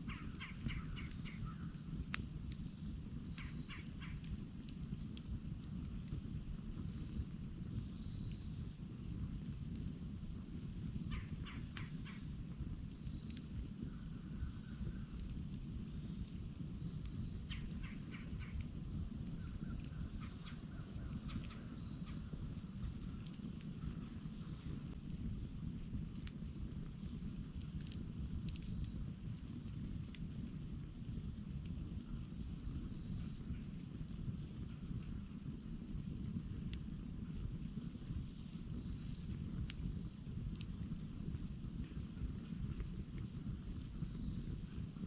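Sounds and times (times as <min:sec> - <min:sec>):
campfire rumbling: 0:00.0 - 0:45.0
fire crackles and pop: 0:00.0 - 0:45.0.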